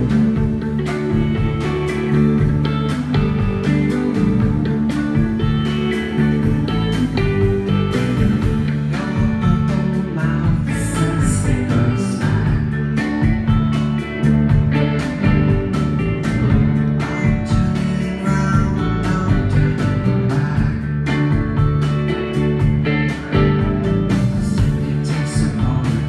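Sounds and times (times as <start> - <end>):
drum beat: 0.0 - 25.8
electric bass: 0.0 - 26.0
electric guitar: 0.0 - 26.0.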